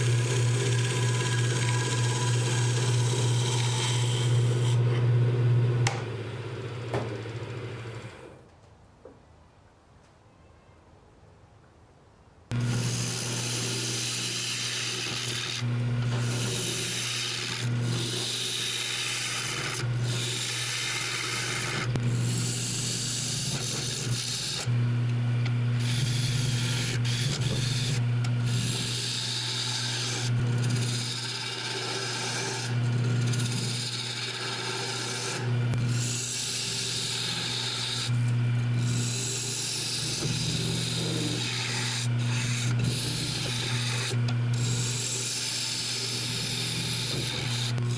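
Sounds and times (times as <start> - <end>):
tool scraping spinning wood: 0.0 - 6.1, 12.5 - 47.9
lathe motor hum: 0.0 - 8.4, 12.5 - 47.9.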